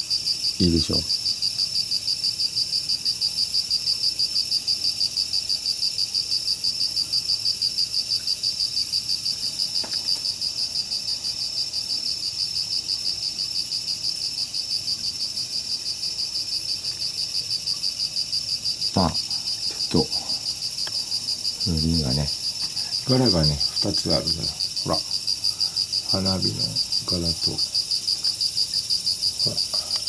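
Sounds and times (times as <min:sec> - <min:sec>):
insect chirping: 0:00.0 - 0:30.0.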